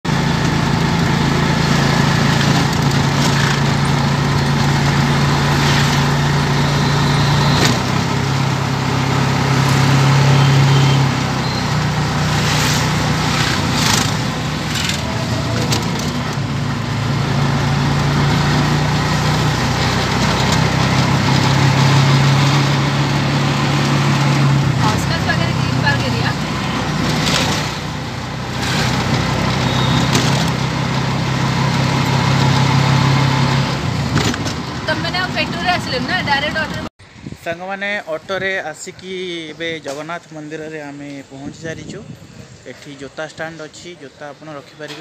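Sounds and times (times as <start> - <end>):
road noise: 0.0 - 45.0
auto-rickshaw engine running: 0.1 - 36.9.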